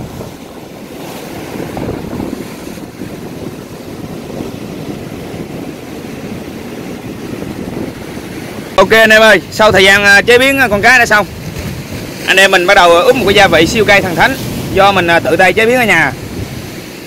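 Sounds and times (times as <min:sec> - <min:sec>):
surf washing over rocks: 0:00.0 - 0:17.0
wind buffeting microphone: 0:00.0 - 0:17.0.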